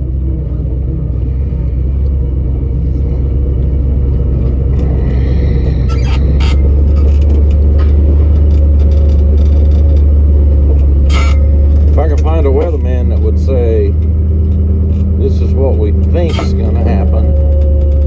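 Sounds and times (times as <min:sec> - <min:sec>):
engine and road rumble in cab: 0:00.0 - 0:18.0.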